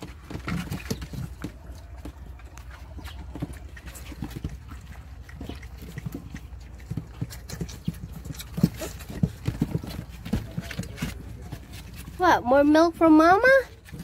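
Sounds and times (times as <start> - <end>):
puppies lapping milk: 0.0 - 14.0.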